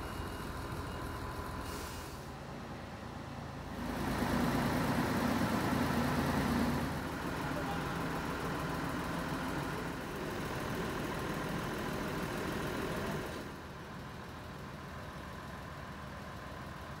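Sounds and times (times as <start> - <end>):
diesel railcar engine idling: 0.0 - 17.0.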